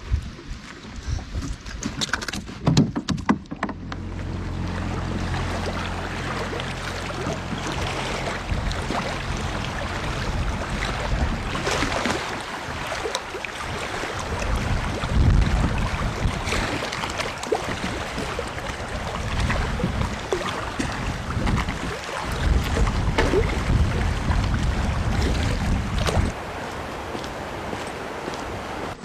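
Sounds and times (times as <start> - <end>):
wind buffeting microphone: 0.0 - 2.0, 4.3 - 29.0.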